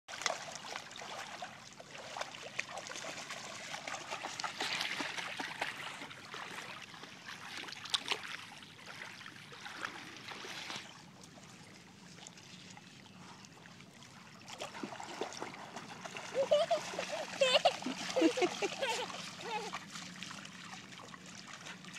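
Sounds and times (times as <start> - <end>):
water lapping over pebbles: 0.1 - 21.9.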